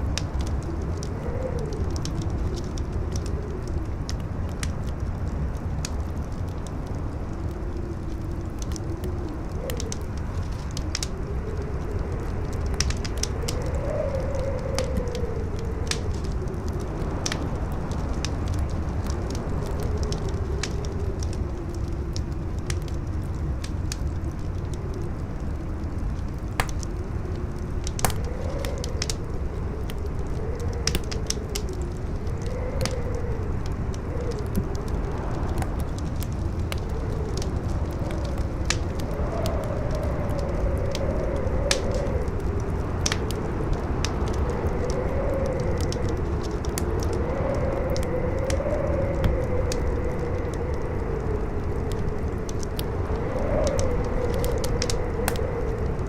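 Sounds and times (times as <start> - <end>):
campfire crackling: 0.0 - 56.0
strong wind howling: 0.0 - 56.0.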